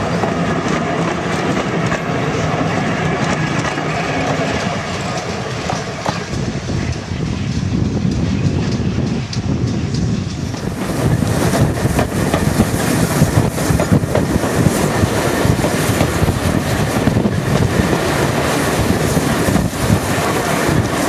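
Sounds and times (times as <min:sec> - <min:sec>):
train rumbling and clattering: 0:00.0 - 0:21.0
wind buffeting microphone: 0:00.0 - 0:21.0.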